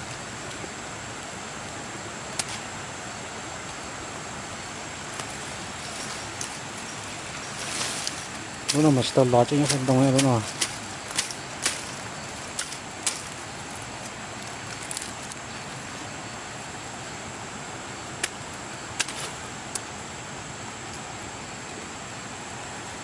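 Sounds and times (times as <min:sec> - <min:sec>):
high insect drone: 0:00.0 - 0:23.0
steady hiss: 0:00.0 - 0:23.0.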